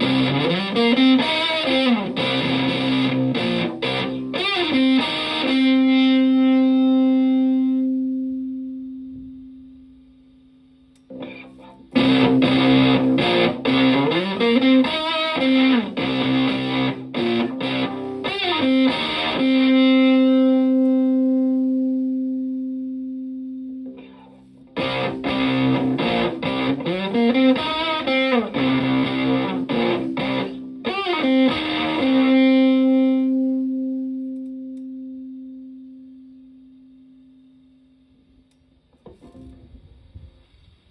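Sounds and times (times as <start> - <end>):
fuzz electric guitar notes: 0.0 - 37.7.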